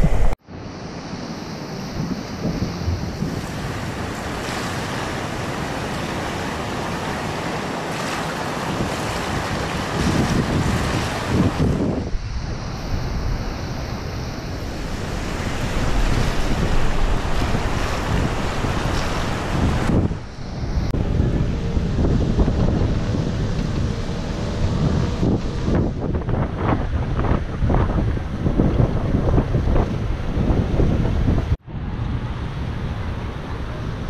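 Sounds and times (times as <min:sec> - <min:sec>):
wind buffeting microphone: 0:00.0 - 0:00.4, 0:01.8 - 0:34.0
ocean surf rushing: 0:00.0 - 0:34.0.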